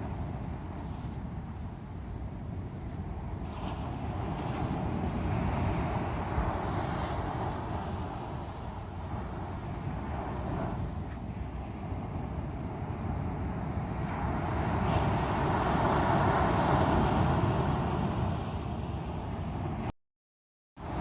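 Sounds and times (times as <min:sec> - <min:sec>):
sea waves breaking on shore: 0:00.0 - 0:19.9, 0:20.8 - 0:21.0.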